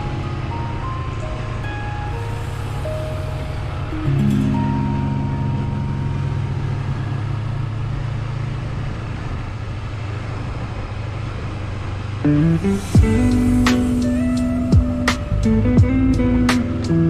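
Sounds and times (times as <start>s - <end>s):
sustained low chord: 0.0s - 17.0s.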